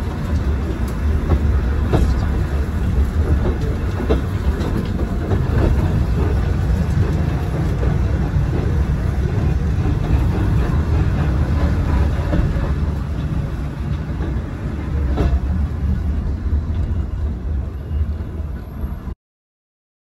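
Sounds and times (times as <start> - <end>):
railway car rumbling on track: 0.0 - 19.2.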